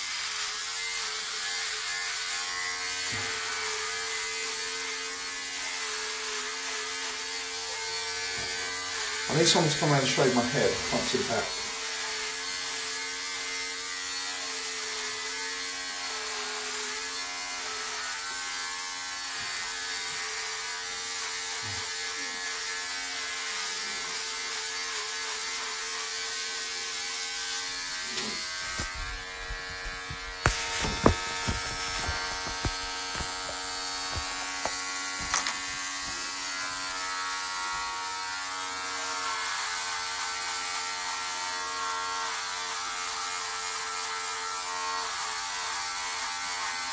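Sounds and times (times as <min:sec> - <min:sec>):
electric shaver buzzing: 0:00.0 - 0:46.9.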